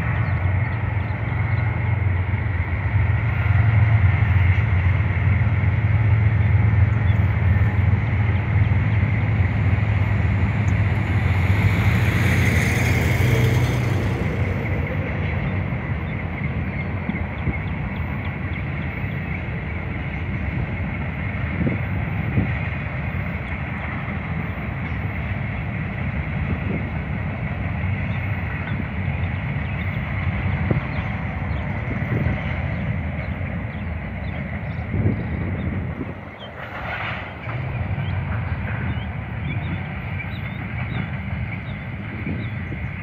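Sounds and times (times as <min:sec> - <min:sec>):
freight train wheels rumbling: 0:00.0 - 0:43.0.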